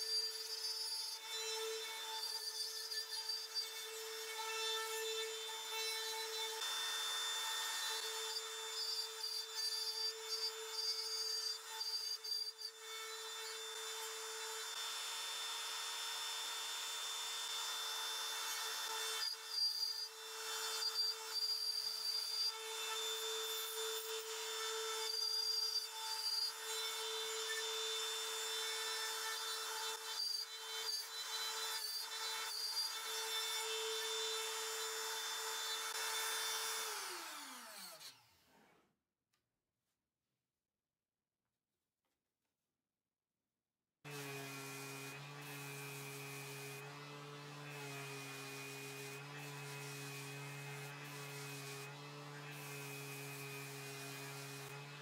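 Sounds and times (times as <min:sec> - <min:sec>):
router whining cutting plywood: 0:00.0 - 0:38.8, 0:44.1 - 0:55.0.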